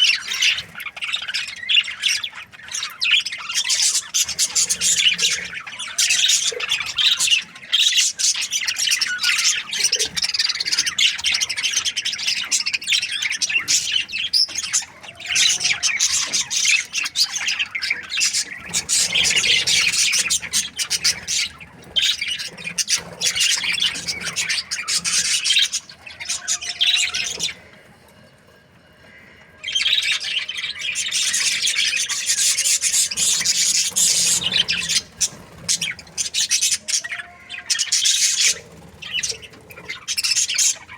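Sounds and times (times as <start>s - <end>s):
budgerigar chirping and chattering: 0.0s - 28.2s, 29.0s - 40.9s.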